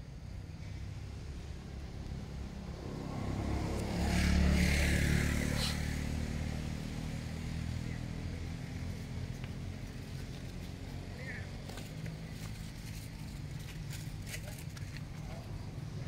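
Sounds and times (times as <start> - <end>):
vehicle engine passing: 0.6 - 14.2.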